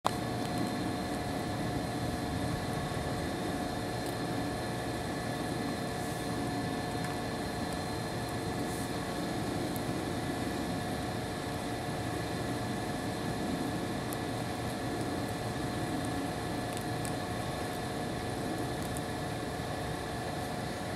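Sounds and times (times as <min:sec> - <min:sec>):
steady mechanical hum: 0:00.0 - 0:20.9.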